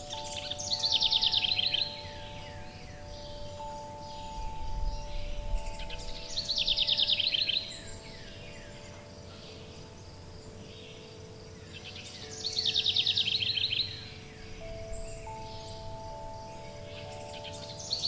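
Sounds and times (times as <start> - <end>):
songbird trilling and chirping: 0.0 - 18.0
wind chimes ringing: 0.0 - 18.0.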